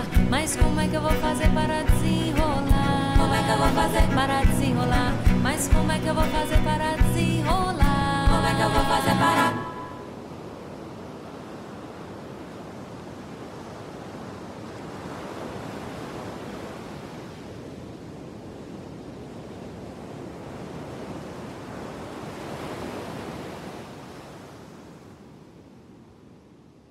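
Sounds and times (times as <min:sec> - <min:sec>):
sea surf washing: 0:00.0 - 0:25.3.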